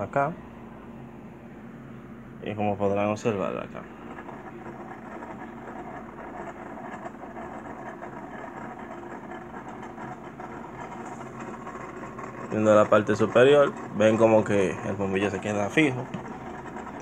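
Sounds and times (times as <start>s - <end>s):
rotating beacon motor humming: 3.3s - 17.0s.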